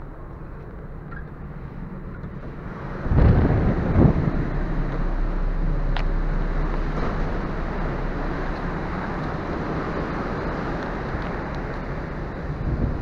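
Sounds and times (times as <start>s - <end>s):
sea water rushing along hull: 0.0s - 13.0s
ship engine hum: 0.0s - 13.0s
wind: 0.0s - 13.0s.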